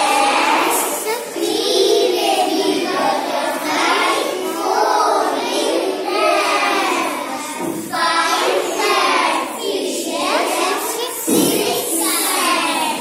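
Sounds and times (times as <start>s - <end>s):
children chanting a nursery rhyme: 0.0s - 13.0s.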